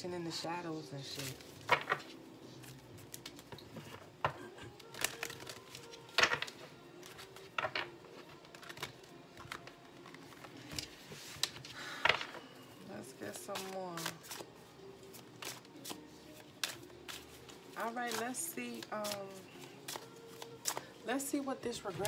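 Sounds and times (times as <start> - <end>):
cards being shuffled: 1.1 - 12.5, 13.2 - 20.9.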